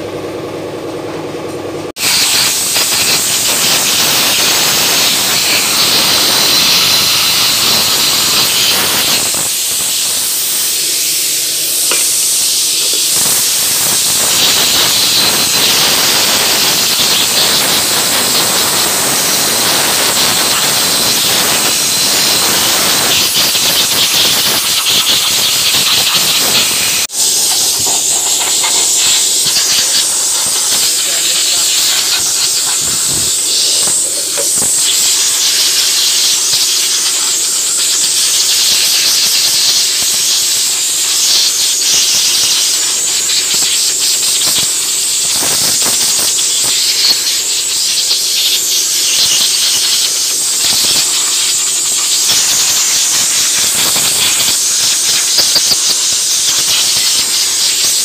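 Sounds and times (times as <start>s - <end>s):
high-pressure jet hissing: 2.0s - 58.0s.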